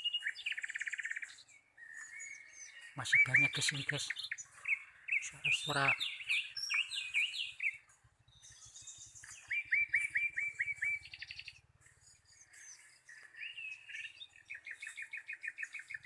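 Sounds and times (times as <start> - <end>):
bird repeated notes and trill: 0.0 - 16.0
wild birds calling: 0.0 - 16.0.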